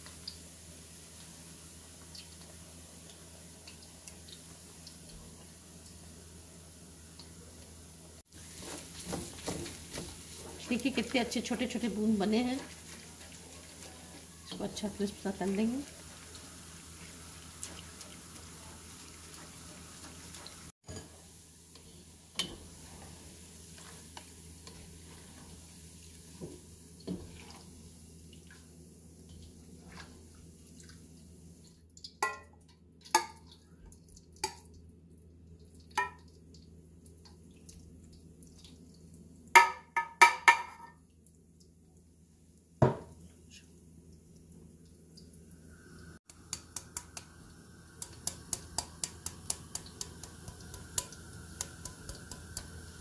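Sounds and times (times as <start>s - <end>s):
food frying with faint sizzle: 0.0s - 53.0s.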